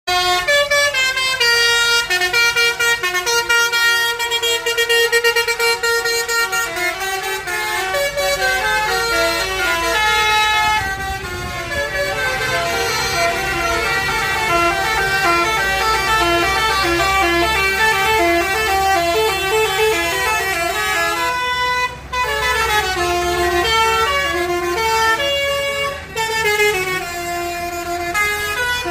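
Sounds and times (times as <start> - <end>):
bus engine running: 0.1 - 28.9
multi-tone air horn melody: 0.1 - 28.9.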